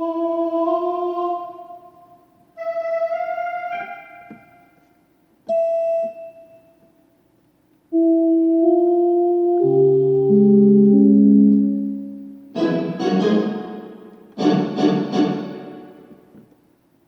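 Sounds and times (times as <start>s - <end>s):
keyboard choir notes: 0.0s - 6.0s, 7.9s - 16.4s.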